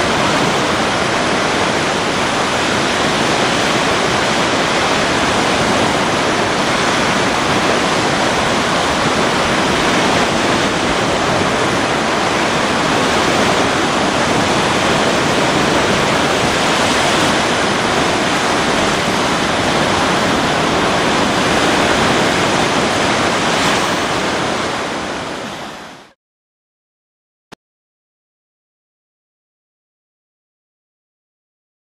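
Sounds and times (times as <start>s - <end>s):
surf breaking on beach: 0.0s - 26.2s
wind: 0.0s - 26.2s.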